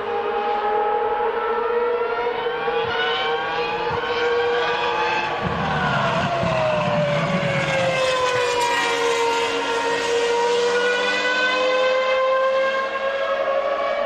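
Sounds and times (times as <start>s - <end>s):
racing car engine wailing: 0.0s - 14.0s.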